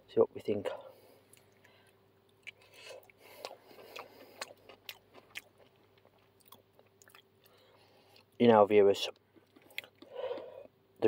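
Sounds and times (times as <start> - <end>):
faint chewing: 0.9 - 8.4, 9.1 - 10.7.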